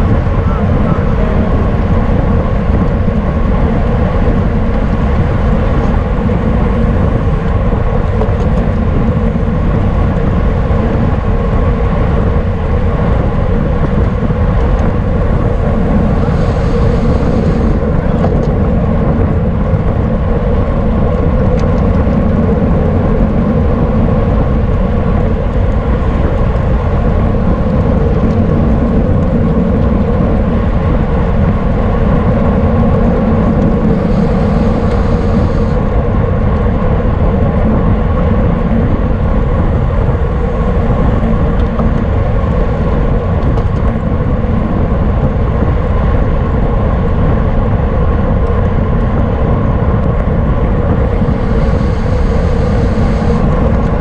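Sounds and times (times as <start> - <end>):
road and tyre noise: 0.0 - 54.0
wind buffeting microphone: 0.0 - 54.0.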